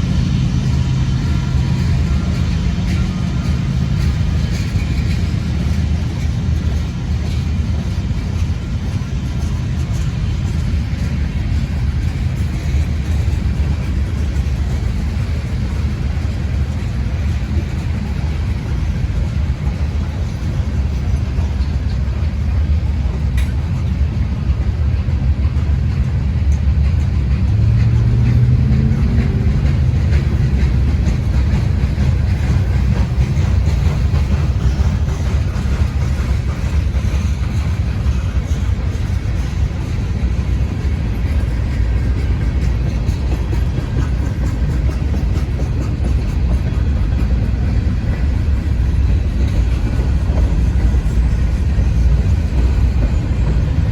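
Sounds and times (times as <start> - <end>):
freight train rumble: 0.0 - 53.9
locomotive engine working: 0.0 - 53.9.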